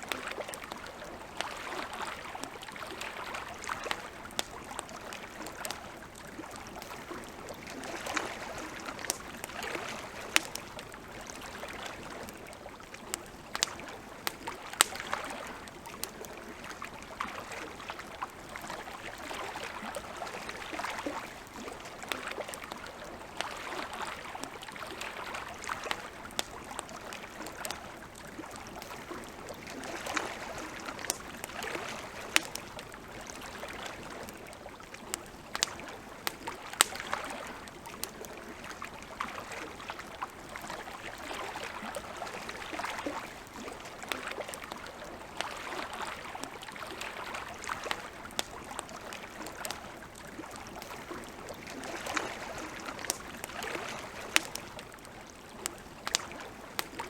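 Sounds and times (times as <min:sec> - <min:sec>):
wood campfire crackling: 0:00.0 - 0:57.0.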